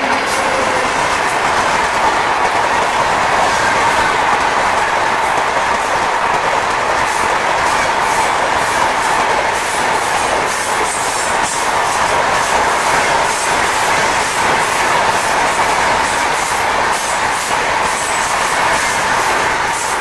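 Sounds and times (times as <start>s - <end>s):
clickety-clack over rail joints: 0.0s - 20.0s
rumble of train wheels on rails: 0.0s - 20.0s.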